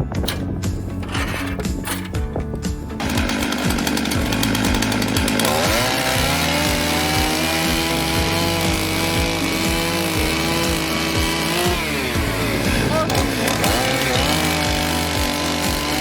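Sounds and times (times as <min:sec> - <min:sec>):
background music with beat: 0:00.0 - 0:16.0
power saw running: 0:00.3 - 0:16.0.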